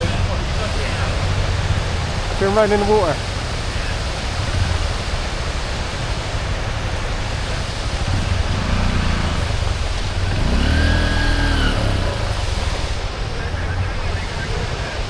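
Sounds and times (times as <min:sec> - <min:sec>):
motorbike engine revving: 0:00.0 - 0:15.0
steady rushing noise: 0:00.0 - 0:15.0.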